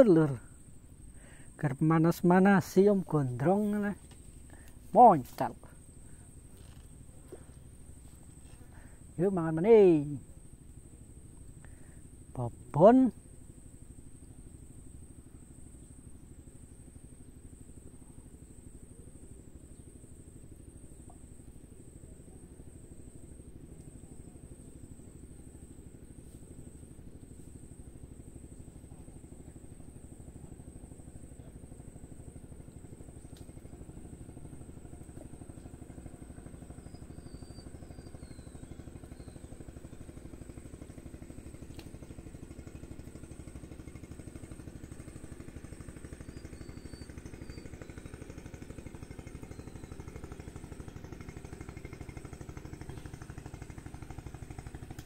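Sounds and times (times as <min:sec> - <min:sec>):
distant engine drone: 0:00.0 - 0:55.0.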